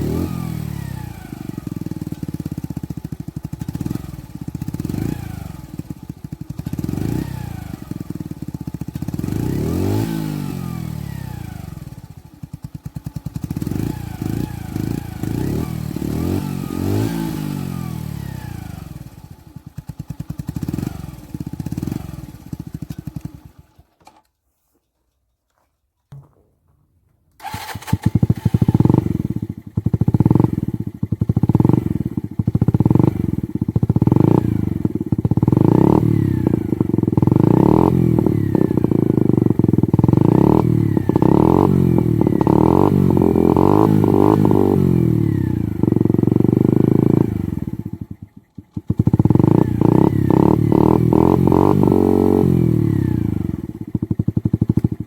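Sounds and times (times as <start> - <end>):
motorcycle engine revving: 0.0 - 24.0, 27.4 - 55.0.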